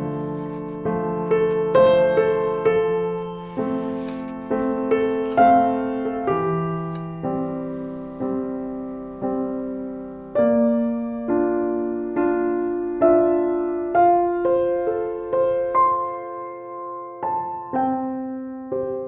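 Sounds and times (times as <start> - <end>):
soft slow piano music: 0.0 - 19.0.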